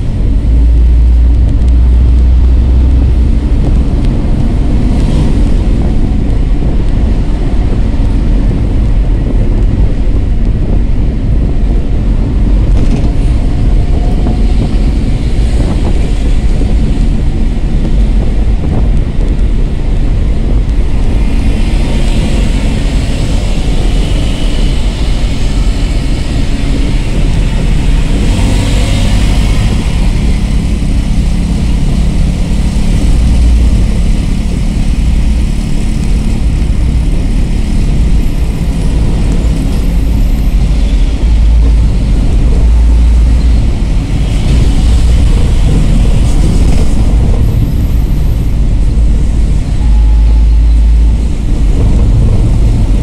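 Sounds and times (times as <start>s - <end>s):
engine and road rumble: 0.0s - 53.0s
rushes of noise: 0.0s - 53.0s.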